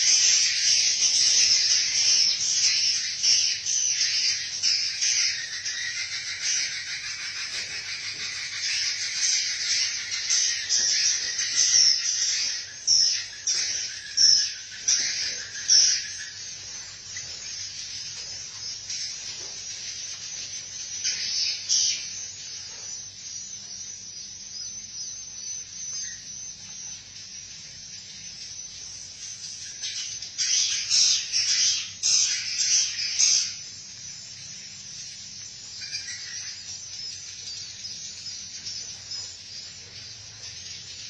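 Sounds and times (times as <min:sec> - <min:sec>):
swiftlets chirping and twittering: 0:00.0 - 0:41.0.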